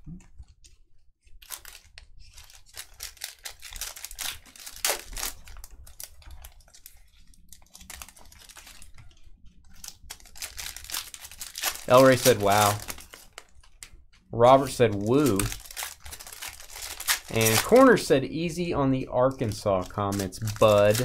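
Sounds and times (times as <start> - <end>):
card wrappers torn and crinkled: 1.3 - 18.6, 19.2 - 21.0.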